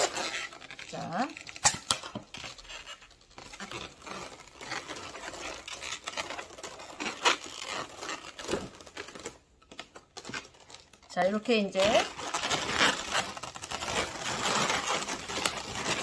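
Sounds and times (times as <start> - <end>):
balloons rubbing and rustling: 0.0 - 16.0.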